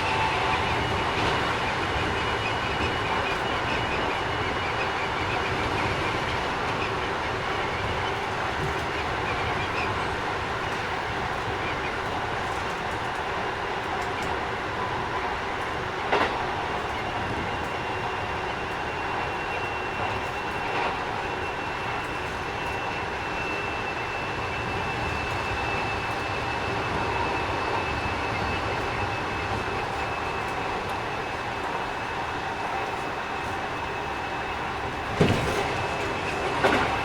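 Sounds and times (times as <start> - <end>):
train interior rumble: 0.0 - 37.0.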